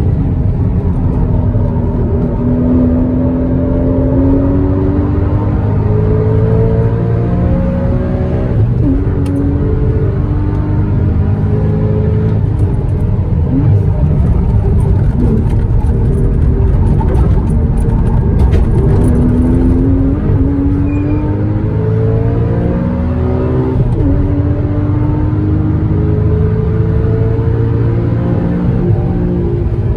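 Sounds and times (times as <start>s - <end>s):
car engine accelerating hard: 0.0s - 29.9s.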